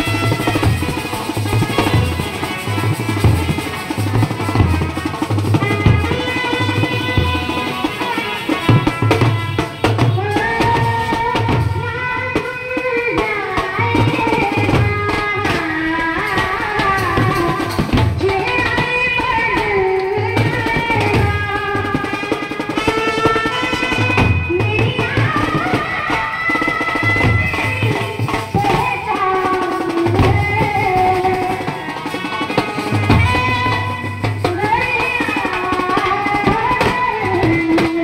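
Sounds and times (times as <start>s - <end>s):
steady drum beat: 0.0s - 38.0s.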